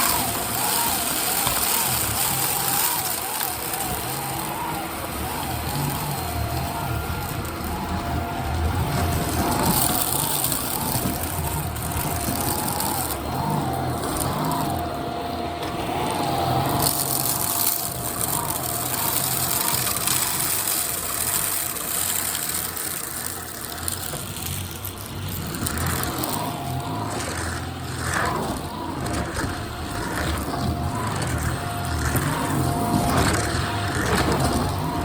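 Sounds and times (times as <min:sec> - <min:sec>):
stick vacuum running on hard floor: 0:00.0 - 0:35.0.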